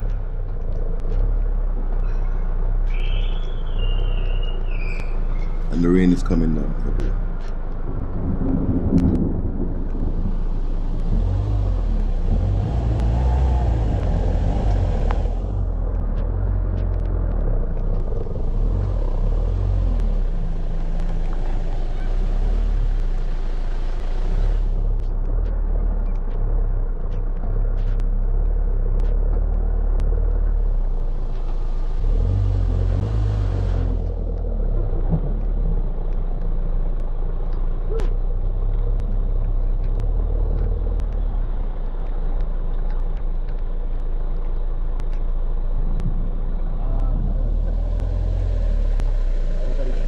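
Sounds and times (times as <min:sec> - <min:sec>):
van engine rumbling: 0:00.0 - 0:50.0.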